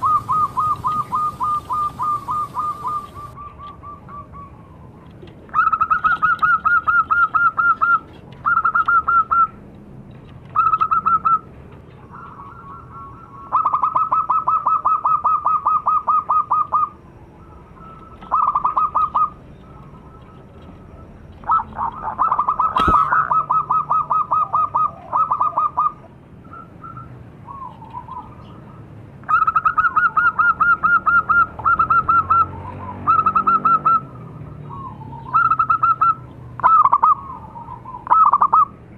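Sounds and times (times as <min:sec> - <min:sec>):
doves cooing rapidly: 0:00.0 - 0:09.6, 0:10.5 - 0:38.8.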